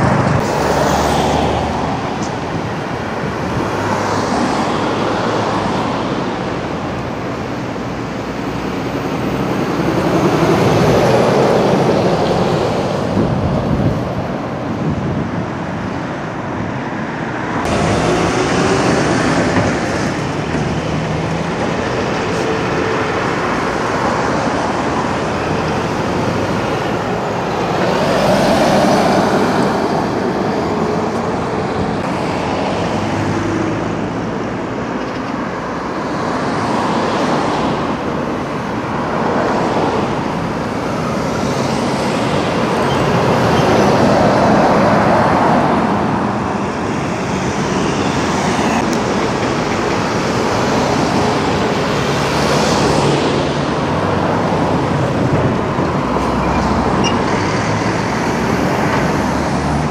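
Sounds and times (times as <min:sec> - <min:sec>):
traffic rumble: 0:00.0 - 0:59.9
vehicles passing by: 0:00.0 - 0:59.9.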